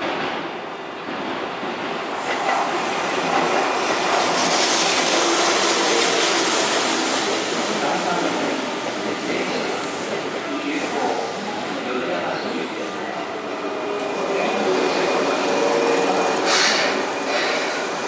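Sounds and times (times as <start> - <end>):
train wheels rumbling and clattering: 0.0 - 12.7, 13.4 - 18.0.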